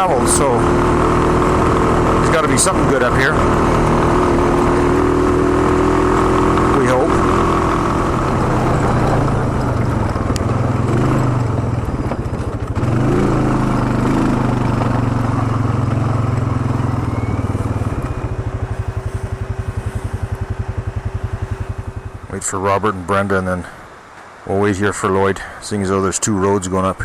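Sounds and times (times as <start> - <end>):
quad engine running: 0.0 - 23.8.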